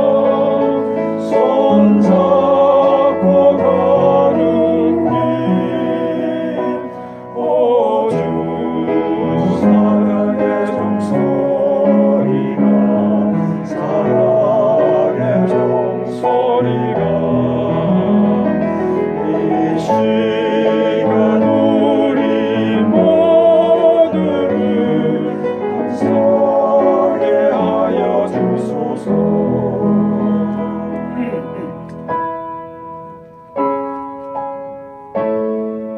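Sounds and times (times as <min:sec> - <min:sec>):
vocal ensemble singing gospel: 0:00.0 - 0:32.1
piano accompaniment: 0:00.0 - 0:35.9.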